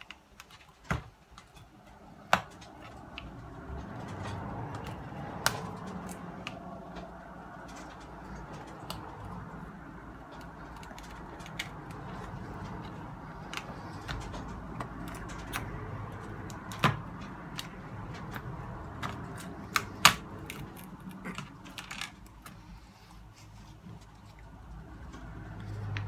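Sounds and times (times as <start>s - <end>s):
plastic and metal parts clicking: 0.0s - 22.8s.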